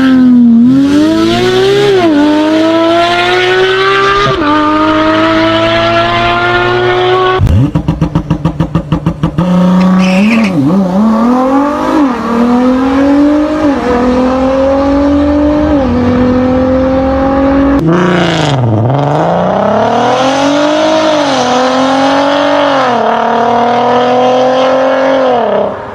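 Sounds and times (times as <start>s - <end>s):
car engine accelerating hard: 0.0s - 25.9s.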